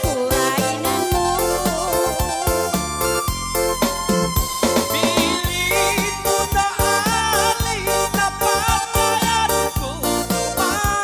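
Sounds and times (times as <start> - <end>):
woman singing into microphone: 0.0 - 3.0, 4.9 - 11.0
live band music: 0.0 - 11.0.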